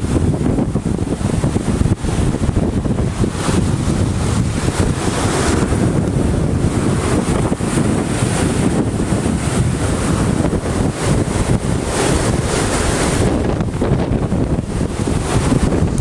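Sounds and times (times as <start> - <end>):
floodwater rushing: 0.0 - 16.0
wind buffeting microphone: 0.0 - 16.0.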